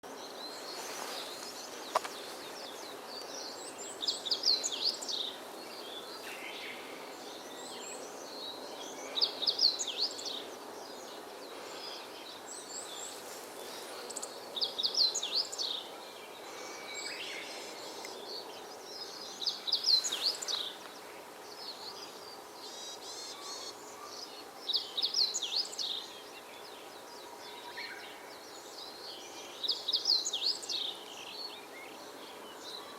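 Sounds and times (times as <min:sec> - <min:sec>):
steady background noise: 0:00.0 - 0:32.9.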